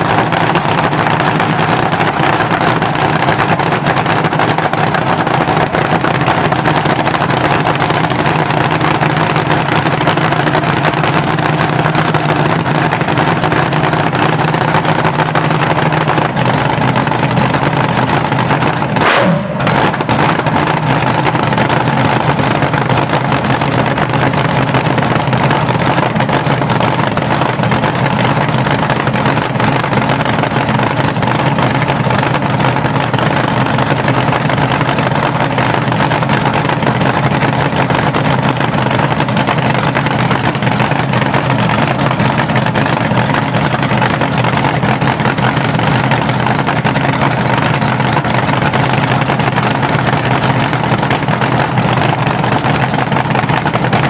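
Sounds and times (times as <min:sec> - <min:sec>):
supercharged engine idling loudly: 0:00.0 - 0:54.0.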